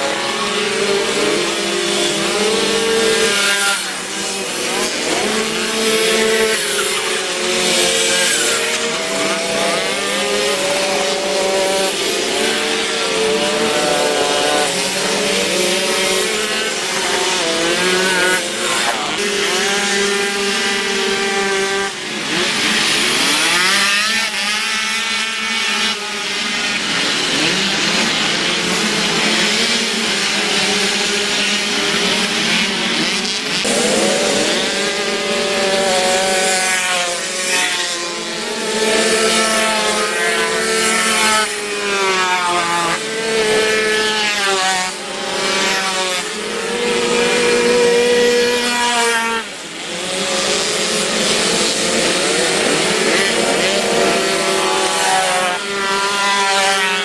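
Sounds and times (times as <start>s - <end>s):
moped engines revving: 0.0s - 57.0s.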